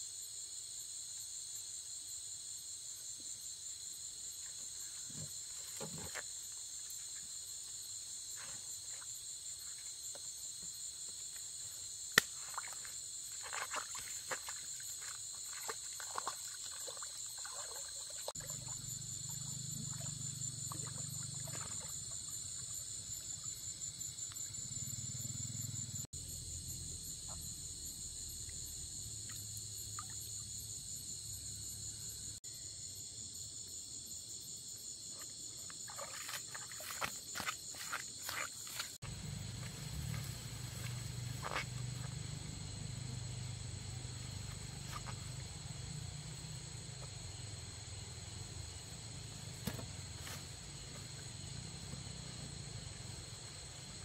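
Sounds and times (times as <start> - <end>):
crickets and insects trilling: 0.0 - 54.0.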